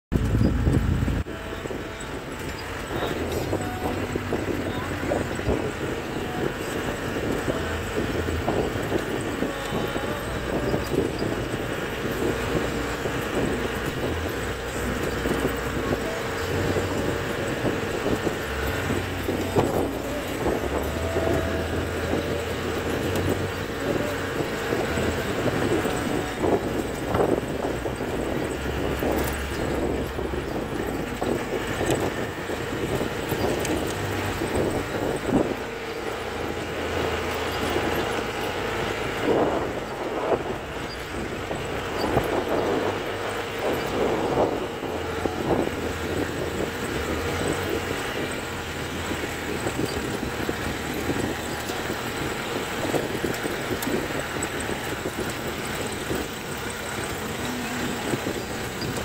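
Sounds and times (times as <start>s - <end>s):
jeep engine running: 0.0s - 59.0s
rattle of open vehicle body: 0.1s - 59.0s.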